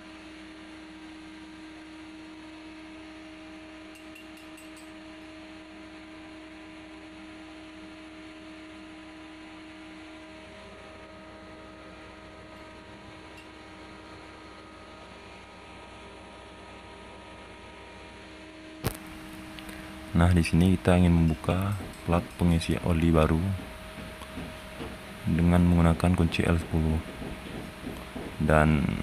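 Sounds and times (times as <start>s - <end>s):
machinery hum with held tones: 0.0s - 29.0s.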